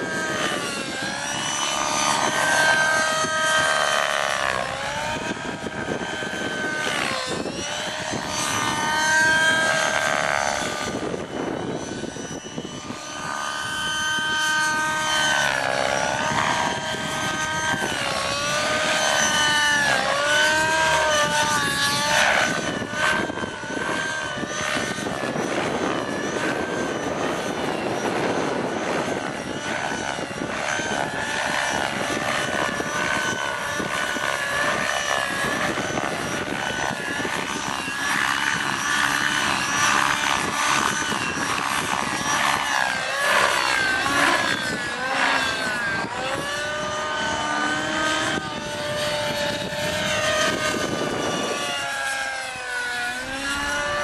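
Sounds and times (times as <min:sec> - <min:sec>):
model helicopter engine and rotors: 0:00.0 - 0:54.0.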